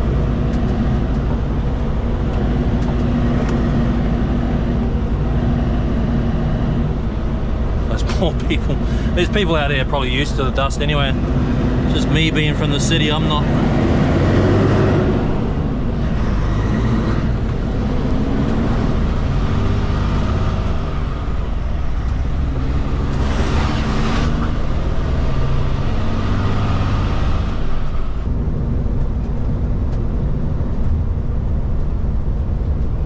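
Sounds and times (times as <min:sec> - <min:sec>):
cab fans blowing: 0:00.0 - 0:33.0
truck diesel engine running: 0:00.0 - 0:33.0.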